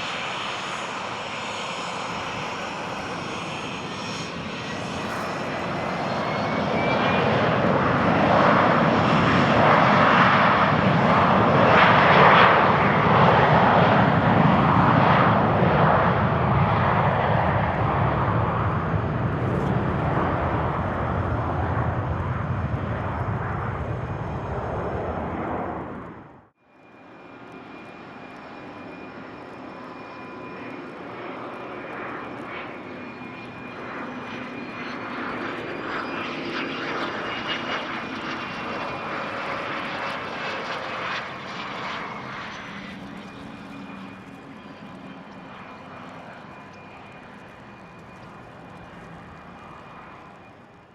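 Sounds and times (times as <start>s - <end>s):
engine hum with high whine: 0.0s - 50.9s
jet engines passing: 0.0s - 50.9s.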